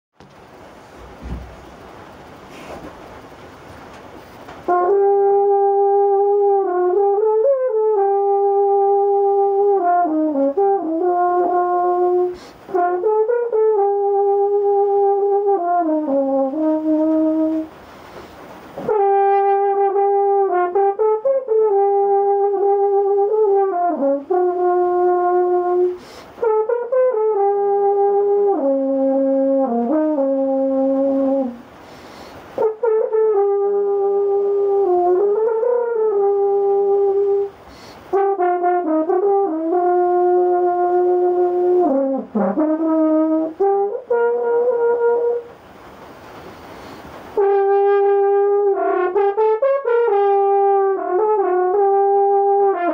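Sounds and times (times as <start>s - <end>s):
horn playing jazzy melody: 0.6s - 52.9s.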